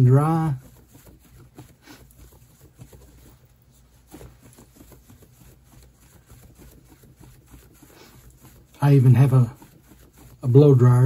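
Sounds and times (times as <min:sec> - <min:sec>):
cloth rustling and flapping: 0:00.0 - 0:11.0.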